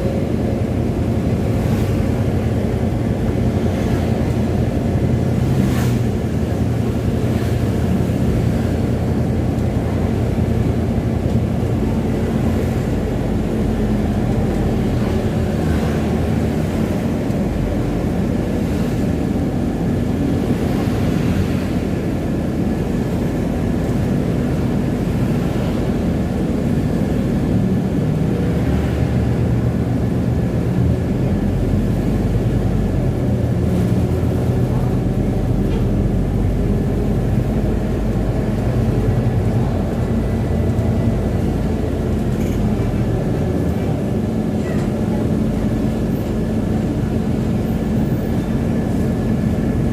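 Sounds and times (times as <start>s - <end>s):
bus engine rumbling: 0.0s - 49.9s.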